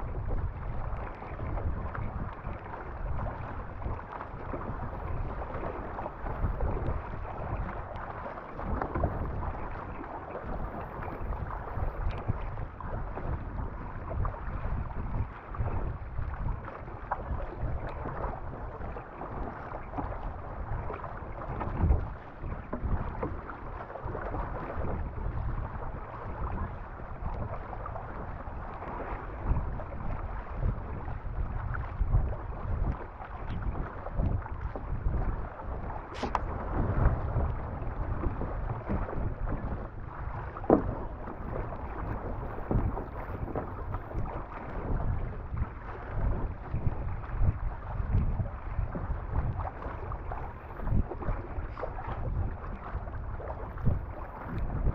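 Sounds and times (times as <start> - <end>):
water rushing along a hull: 0.0 - 54.9
wind buffeting microphone: 0.0 - 54.9.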